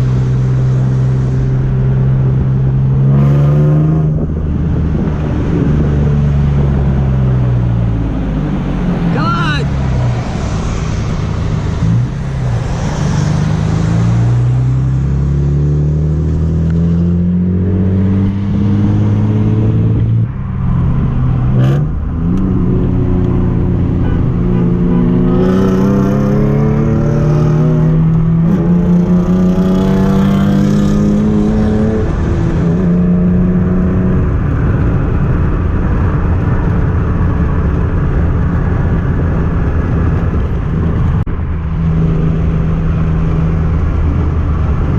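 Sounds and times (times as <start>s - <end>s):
car engine accelerating: 0.0s - 44.9s
wind and tyre noise: 0.0s - 44.9s.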